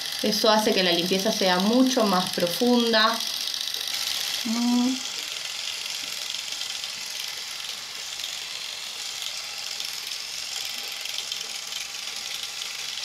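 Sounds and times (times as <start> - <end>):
facial cleansing device whirring: 0.0 - 13.0.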